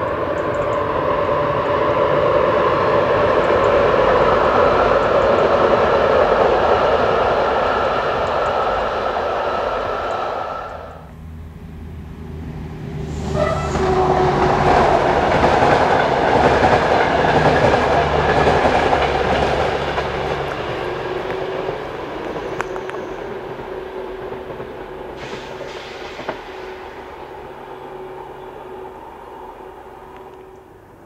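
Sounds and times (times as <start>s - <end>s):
passenger train rumbling past: 0.0s - 31.0s.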